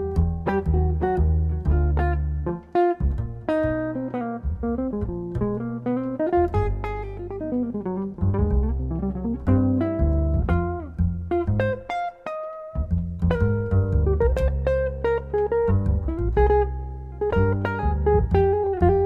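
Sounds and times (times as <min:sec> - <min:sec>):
double bass: 0:00.0 - 0:19.0
jazz guitar solo: 0:00.0 - 0:19.0.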